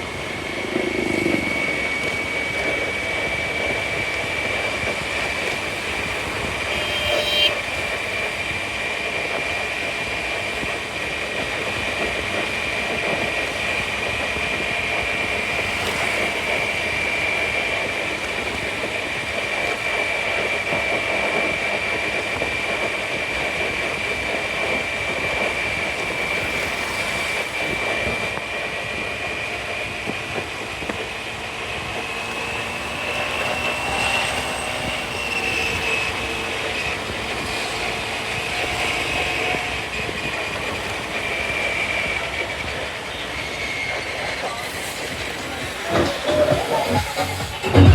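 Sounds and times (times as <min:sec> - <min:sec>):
high whine: 0:00.0 - 0:47.9
scooter engine: 0:00.0 - 0:47.9.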